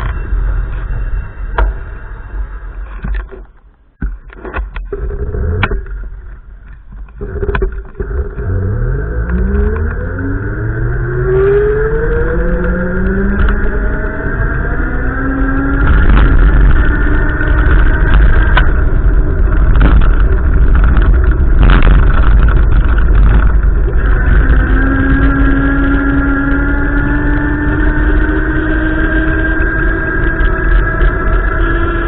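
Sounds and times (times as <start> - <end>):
vehicle engine running: 0.0 - 32.0
wind buffeting microphone: 4.6 - 32.0.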